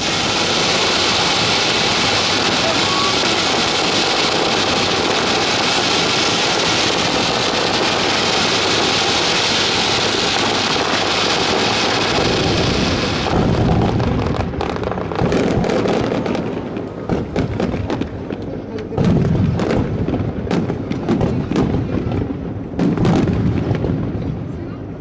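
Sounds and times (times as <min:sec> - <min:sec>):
fireworks booms and bangs: 0:00.0 - 0:25.0
fireworks crackling: 0:00.0 - 0:25.0.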